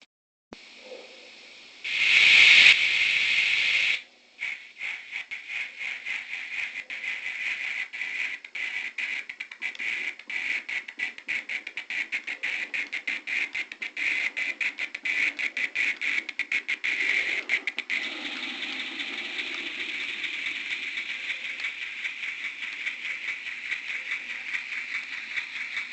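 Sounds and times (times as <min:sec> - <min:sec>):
stuttering locomotive sound from speaker: 0:01.9 - 0:25.9.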